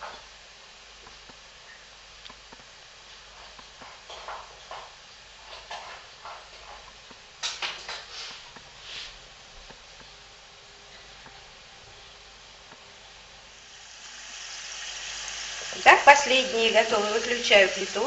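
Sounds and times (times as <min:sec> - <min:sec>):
dough frying in hot oil: 0:00.0 - 0:18.0.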